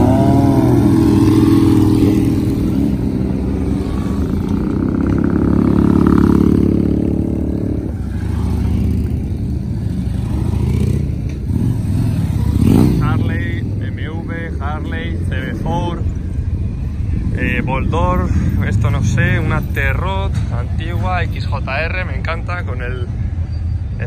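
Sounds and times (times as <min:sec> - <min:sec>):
motorcycle engines passing: 0:00.0 - 0:24.0.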